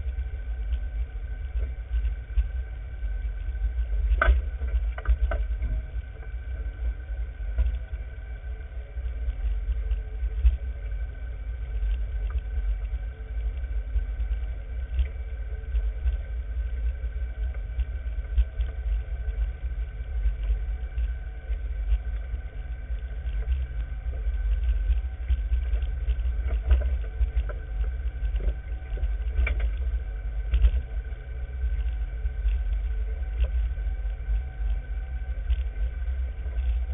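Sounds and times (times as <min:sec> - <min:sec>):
engine and drivetrain whine: 0:00.0 - 0:36.9
off-road vehicle rumbling: 0:00.0 - 0:36.9.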